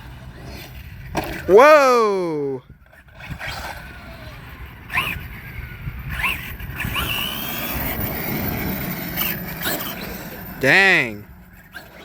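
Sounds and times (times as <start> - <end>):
rc truck rumble and rattle: 0.0 - 1.5, 2.6 - 12.0.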